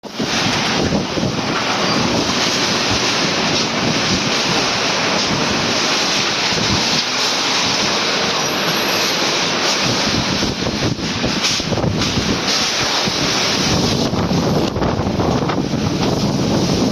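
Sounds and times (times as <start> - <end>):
storm wind buffeting microphone: 0.0 - 16.9.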